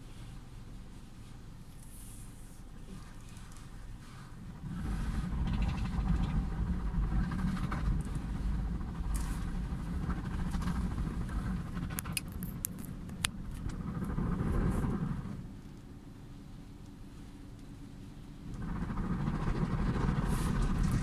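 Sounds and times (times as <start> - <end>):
car wash machine rumbling: 0.0 - 21.0.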